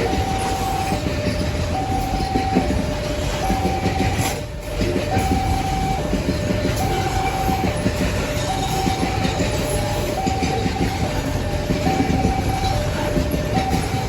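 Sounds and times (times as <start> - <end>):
train wheels clattering on rails: 0.0 - 14.0
two-tone warning alarm: 0.0 - 14.0.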